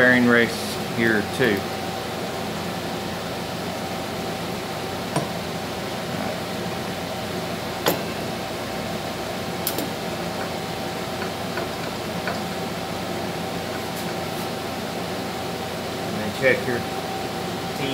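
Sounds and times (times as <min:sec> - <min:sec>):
workshop hum: 0:00.0 - 0:17.9.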